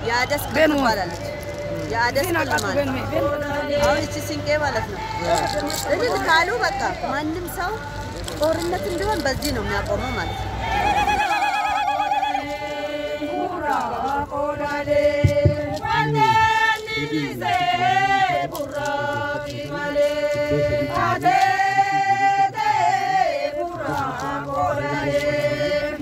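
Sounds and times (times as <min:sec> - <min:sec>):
group singing slow chant: 0:02.6 - 0:08.3, 0:10.5 - 0:26.0.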